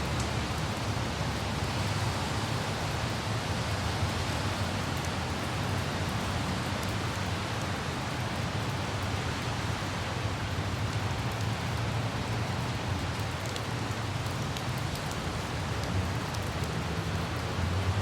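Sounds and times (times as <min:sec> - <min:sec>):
city traffic hum: 0:00.0 - 0:18.0
rain on hard surfaces: 0:00.0 - 0:18.0.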